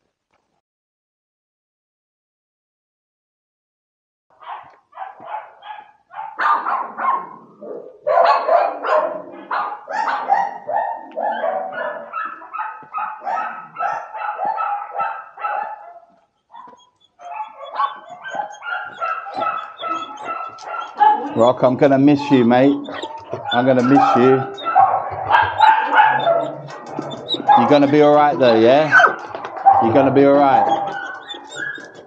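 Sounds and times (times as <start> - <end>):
dogs barking: 4.3 - 32.0.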